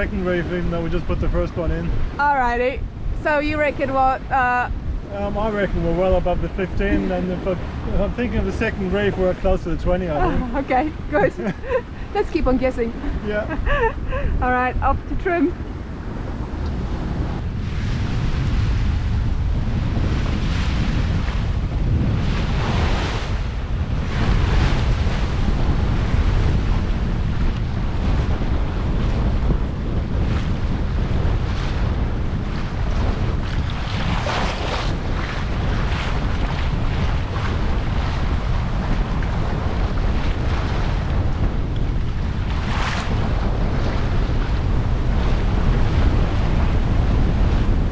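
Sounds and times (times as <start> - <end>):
low rumble: 0.0 - 47.9
water splashing along hull: 0.0 - 47.9
wind buffeting microphone: 0.0 - 47.9.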